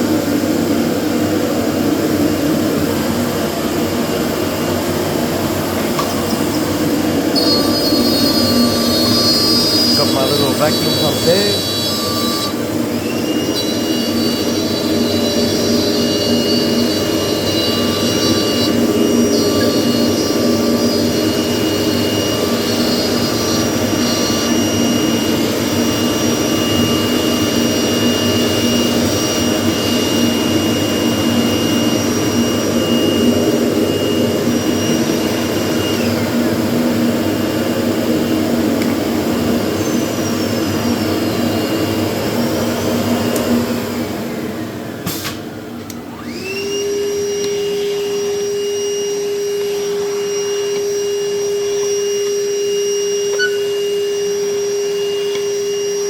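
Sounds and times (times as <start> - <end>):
cnc router spindle whine: 0.0 - 56.0
vacuum pump drone: 0.0 - 56.0.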